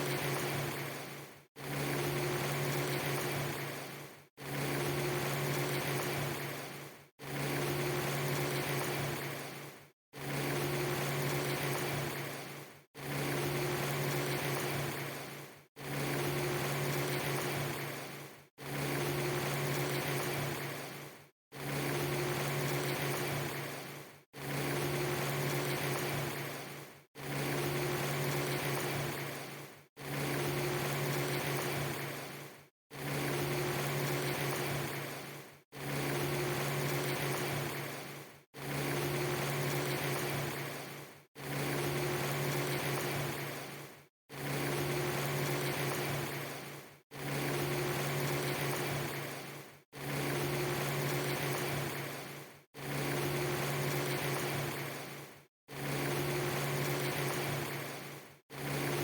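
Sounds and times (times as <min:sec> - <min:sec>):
machine-like hum: 0:00.0 - 0:59.0.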